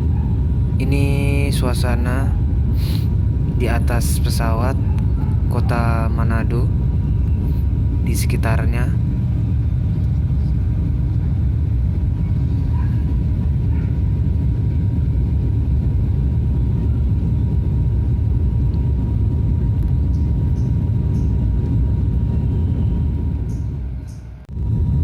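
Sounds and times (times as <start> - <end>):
faint steady whine: 0.0 - 25.0
turboprop airliner cabin drone: 0.0 - 25.0.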